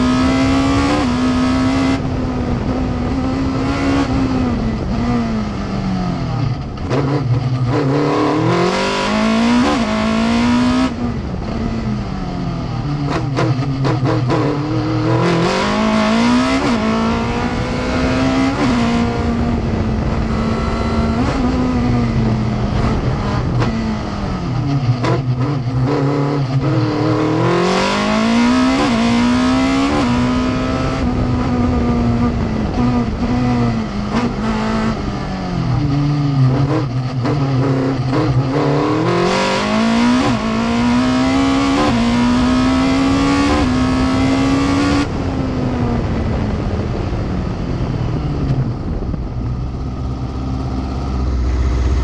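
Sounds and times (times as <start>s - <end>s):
racing car engine revving: 0.0s - 47.1s.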